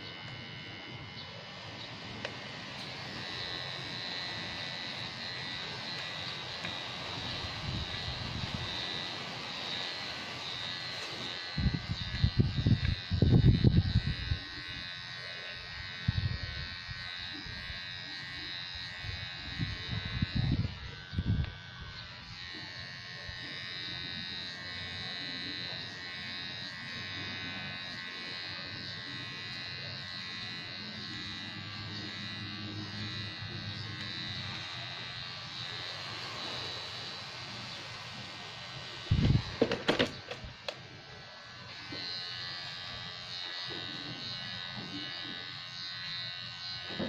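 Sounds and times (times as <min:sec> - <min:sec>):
electric hair clipper buzzing: 0:00.0 - 0:47.0.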